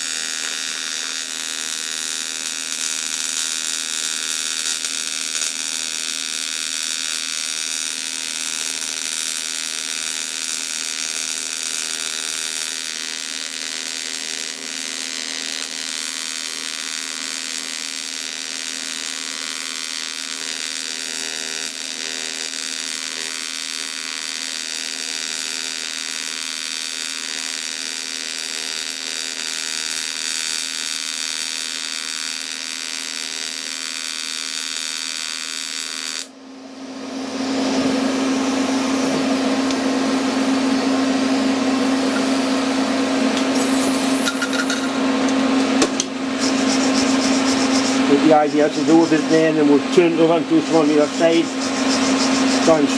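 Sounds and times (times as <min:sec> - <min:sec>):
welding arc buzzing and hissing: 0:00.0 - 0:52.9.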